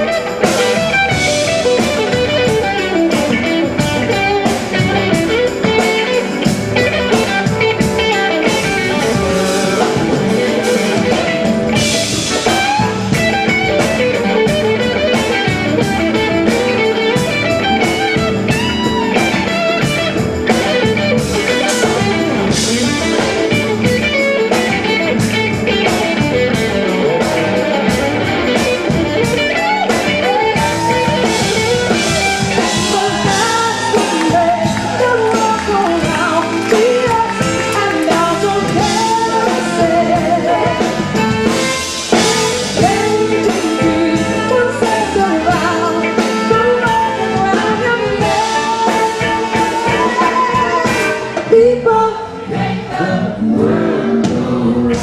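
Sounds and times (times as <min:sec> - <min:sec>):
drum kit steady beat: 0:00.0 - 0:52.0, 0:52.9 - 0:55.0
electric guitar lead: 0:00.0 - 0:55.0.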